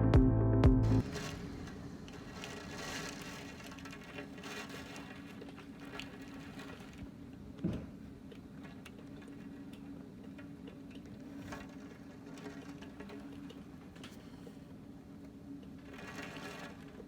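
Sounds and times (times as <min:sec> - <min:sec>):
rain pattering on a window: 0:01.0 - 0:17.0.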